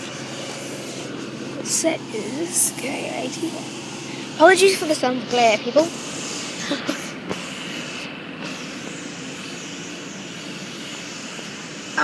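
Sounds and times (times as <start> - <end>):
electric train equipment droning: 0.0 - 12.0
faint high whine: 0.0 - 12.0.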